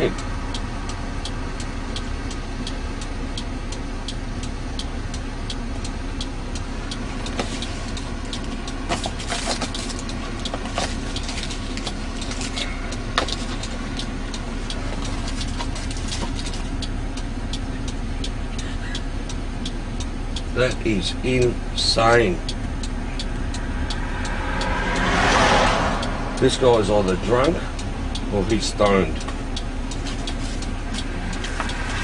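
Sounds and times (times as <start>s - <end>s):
car engine idling: 0.0s - 32.0s
regular clicking: 0.1s - 32.0s.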